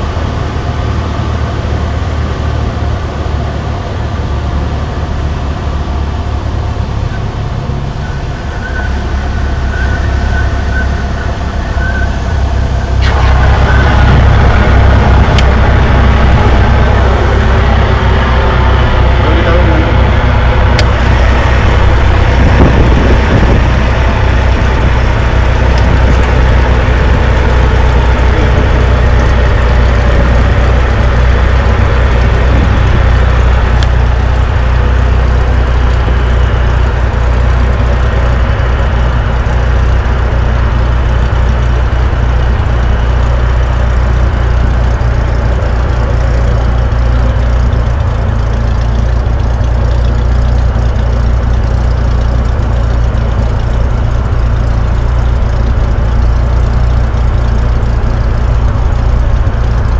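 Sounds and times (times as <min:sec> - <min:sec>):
propeller aircraft engine drone: 0:00.0 - 0:59.9.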